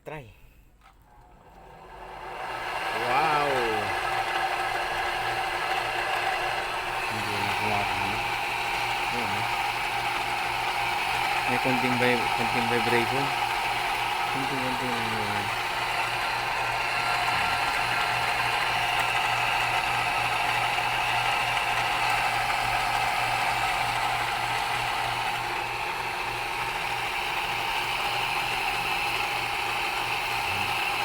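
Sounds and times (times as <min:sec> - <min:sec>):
power tool whining: 0:00.9 - 0:31.0.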